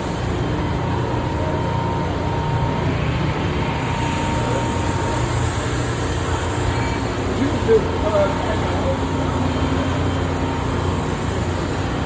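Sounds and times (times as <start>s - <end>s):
machining center humming: 0.0s - 12.0s.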